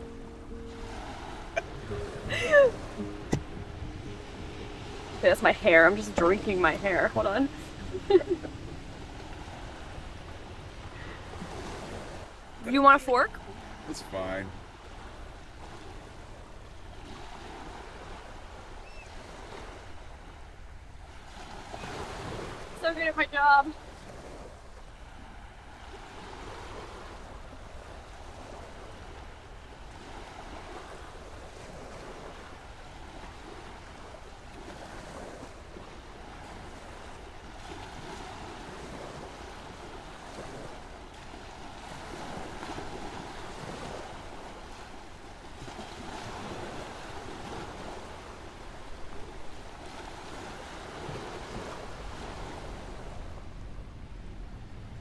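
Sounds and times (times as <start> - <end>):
ocean surf washing in: 0.0 - 55.0
wind: 0.0 - 55.0.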